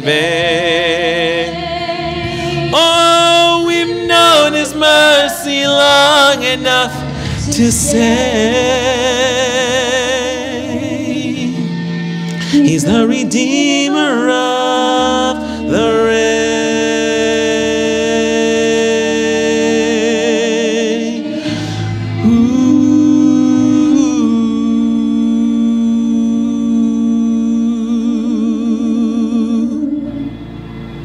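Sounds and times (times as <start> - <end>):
man and woman singing duet: 0.0 - 30.6.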